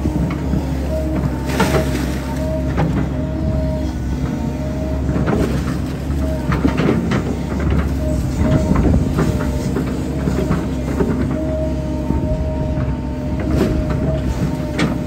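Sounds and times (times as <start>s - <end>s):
diesel engine droning: 0.0s - 15.0s
hydraulic whine: 0.0s - 15.0s.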